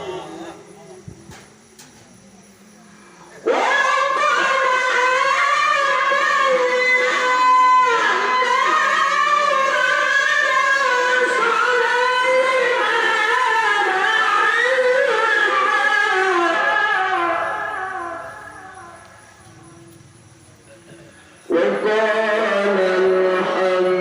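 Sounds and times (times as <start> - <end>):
person chanting recitation: 2.8 - 24.0.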